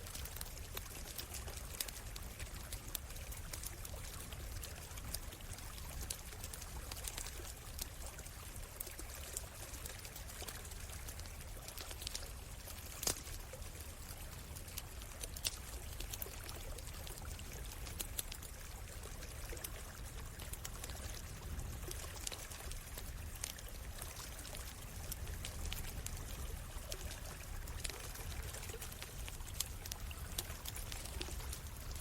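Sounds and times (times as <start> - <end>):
campfire crackling and popping: 0.0 - 32.0
stream water flowing: 0.0 - 32.0.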